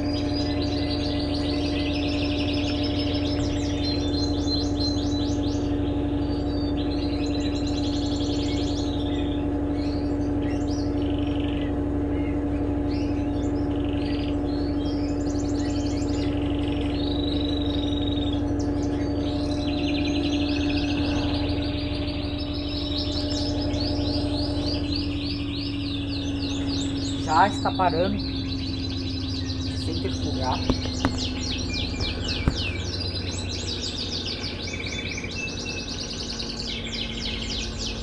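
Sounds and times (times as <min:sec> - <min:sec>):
birds chirping and trilling: 0:00.0 - 0:38.0
washing machine spin cycle: 0:00.0 - 0:38.0.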